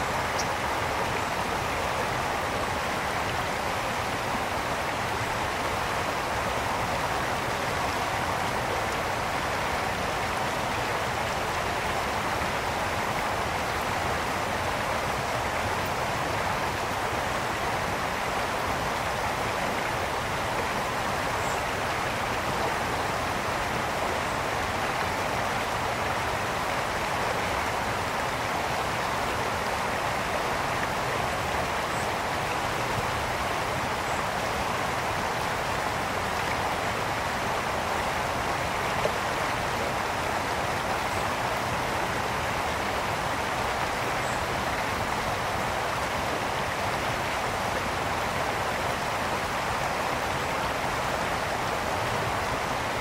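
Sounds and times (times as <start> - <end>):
brook flowing over stones: 0.0 - 53.0.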